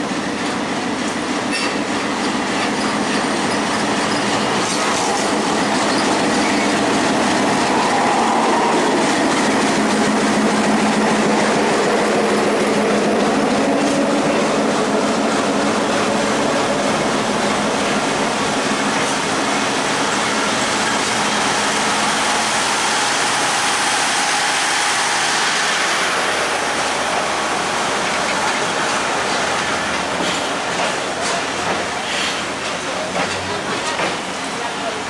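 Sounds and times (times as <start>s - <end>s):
train wheels running on rails: 0.0s - 35.0s.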